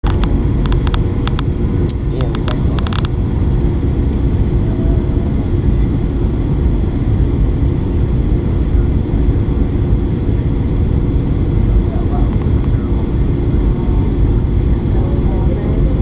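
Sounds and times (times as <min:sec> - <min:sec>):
airliner cabin rumble: 0:00.0 - 0:16.0
faint steady hum: 0:00.0 - 0:16.0
jet engine and airflow noise: 0:00.0 - 0:16.0.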